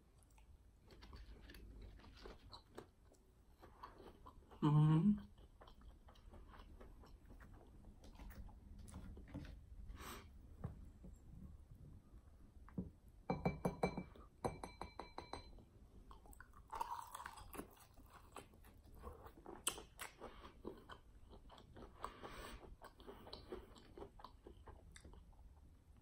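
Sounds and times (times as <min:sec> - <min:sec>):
quiet chewing: 0:00.0 - 0:11.6, 0:16.0 - 0:26.0.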